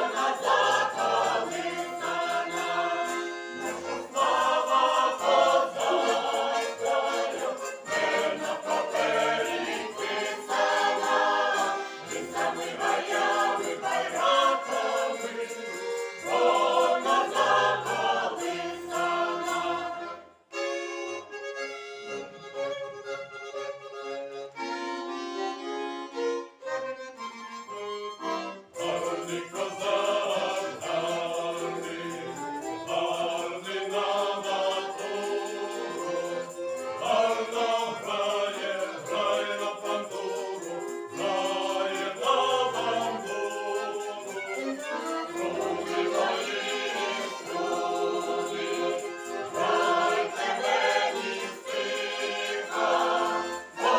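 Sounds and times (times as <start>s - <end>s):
folk choir singing: 0.0s - 20.4s, 28.2s - 53.9s
button accordion: 0.0s - 53.9s
violin: 0.0s - 53.9s.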